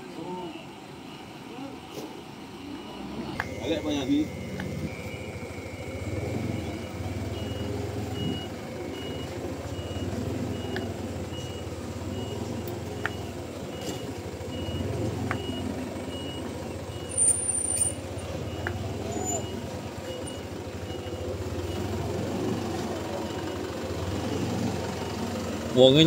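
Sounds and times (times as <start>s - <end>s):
diesel truck engine running: 0.0s - 26.0s
truck reversing alarm beeping: 0.0s - 26.0s.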